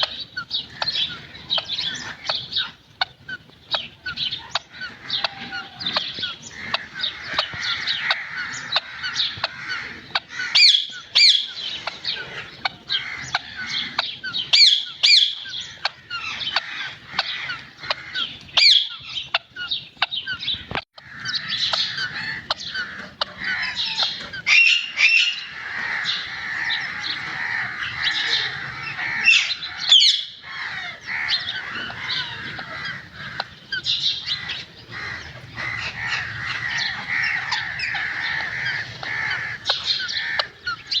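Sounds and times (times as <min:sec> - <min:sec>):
bird chatter: 0:00.0 - 0:41.0
parrot squawking and screeching: 0:00.0 - 0:41.0.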